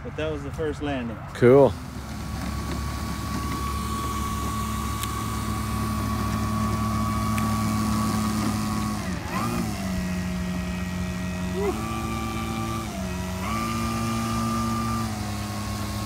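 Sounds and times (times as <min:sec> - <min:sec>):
model plane electric motor whine: 0:01.8 - 0:16.0.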